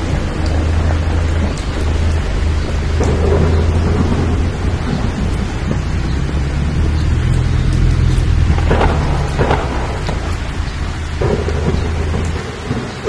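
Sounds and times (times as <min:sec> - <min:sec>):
heavy rain falling: 0:00.0 - 0:13.0
low rumble of thunder: 0:00.0 - 0:13.0.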